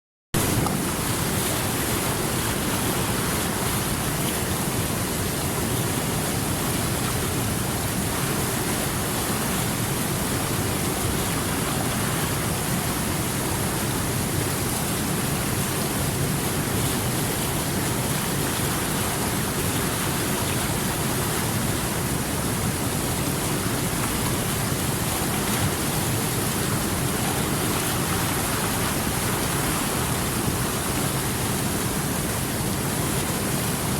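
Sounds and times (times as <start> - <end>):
river water rushing: 0.4 - 33.9.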